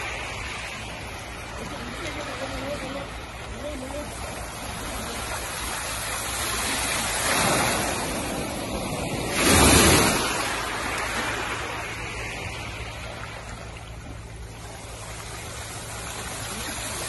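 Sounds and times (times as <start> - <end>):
sea surf washing on shore: 0.0 - 17.0.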